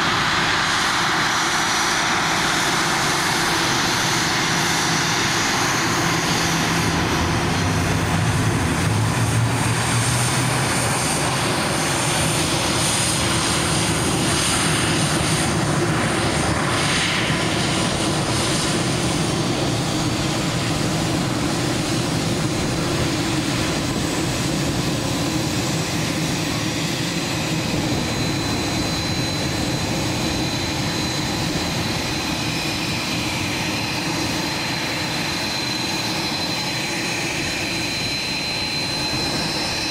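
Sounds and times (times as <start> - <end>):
jet engines rushing and whining: 0.0 - 39.9.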